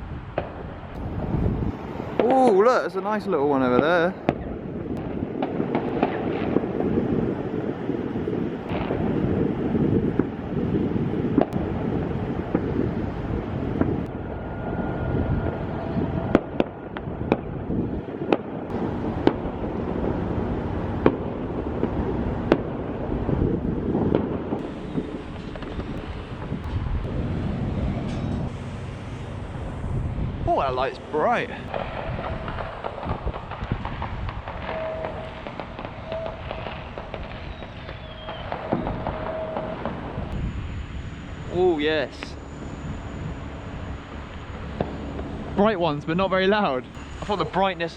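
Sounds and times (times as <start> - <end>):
wind rumble on microphone: 0.0 - 47.9
distant fireworks bangs: 0.3 - 2.8, 3.6 - 46.3.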